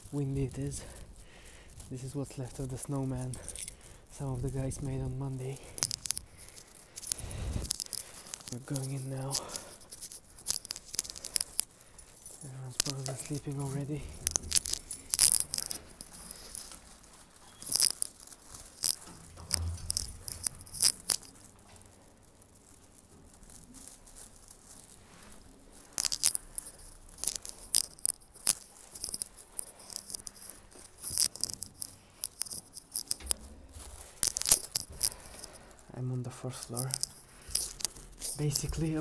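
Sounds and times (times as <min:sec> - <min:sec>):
keys jangling: 0:00.5 - 0:21.8, 0:26.0 - 0:35.8, 0:36.6 - 0:39.0.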